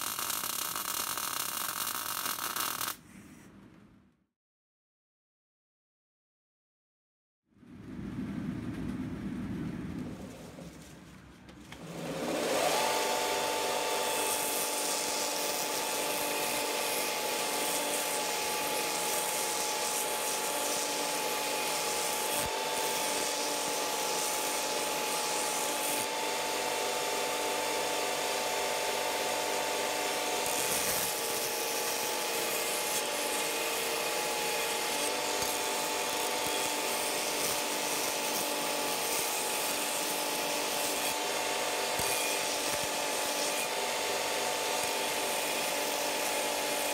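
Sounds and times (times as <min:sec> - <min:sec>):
belt grinder grinding steel: 0:00.0 - 0:03.0, 0:11.8 - 0:46.9.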